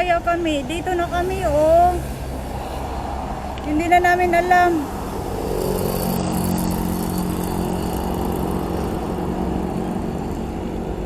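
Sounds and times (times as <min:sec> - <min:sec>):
motor engine humming: 0:00.0 - 0:11.0.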